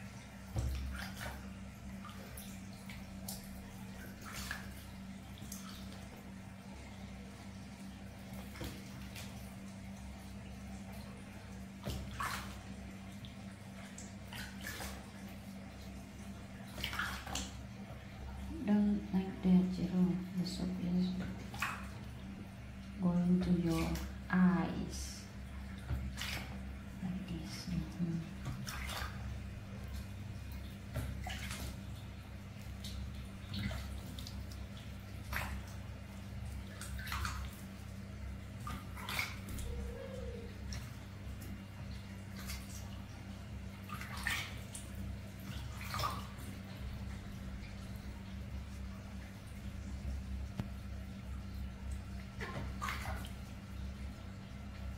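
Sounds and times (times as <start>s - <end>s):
steady low hum: 0.0s - 54.9s
water splashing: 0.0s - 54.9s.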